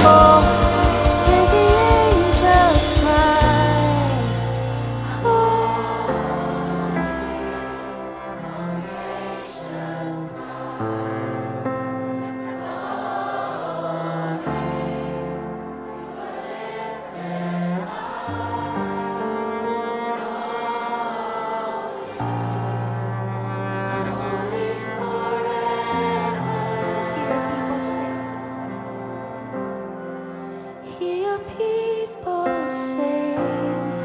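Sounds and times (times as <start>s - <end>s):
worship band playing: 0.0s - 32.2s
congregation singing: 0.0s - 34.0s.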